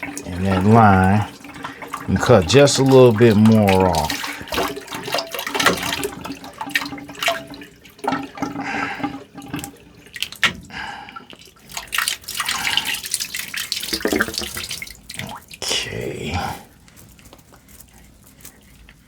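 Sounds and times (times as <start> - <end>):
water trickling and dripping: 0.0 - 16.5.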